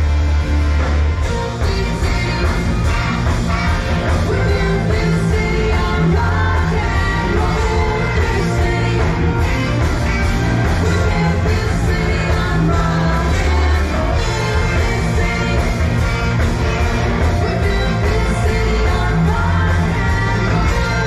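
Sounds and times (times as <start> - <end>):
rock band playing: 0.0 - 21.0
person singing: 1.2 - 21.0.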